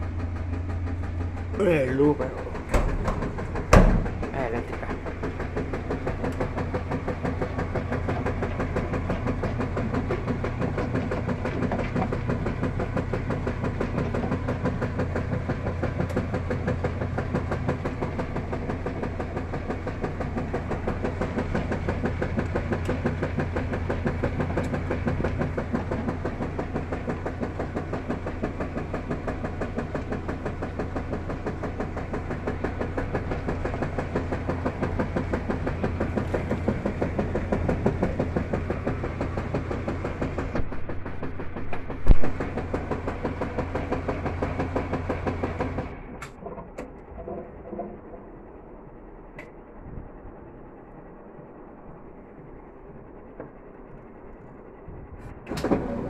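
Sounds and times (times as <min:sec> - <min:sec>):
water churning and sloshing: 0:00.0 - 0:48.8
washing machine motor hum: 0:00.0 - 0:56.0.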